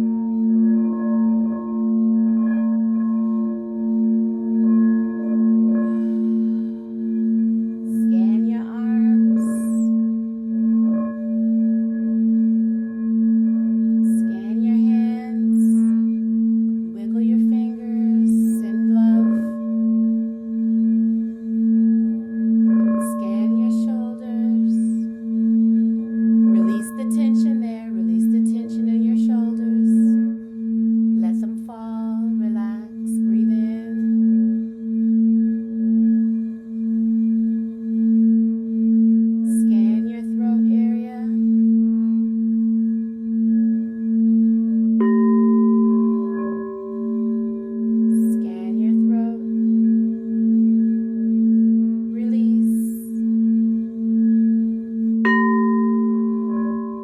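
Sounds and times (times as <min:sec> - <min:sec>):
singing bowl low tone: 0:00.0 - 0:57.0.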